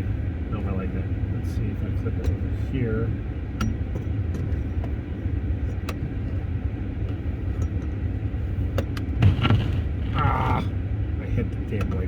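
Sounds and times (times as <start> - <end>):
low cabin rumble: 0.0 - 12.0.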